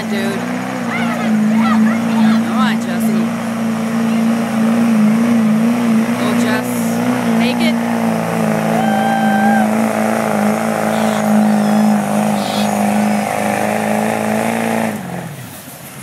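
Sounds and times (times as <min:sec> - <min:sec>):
diesel engine revving high: 0:00.0 - 0:16.0.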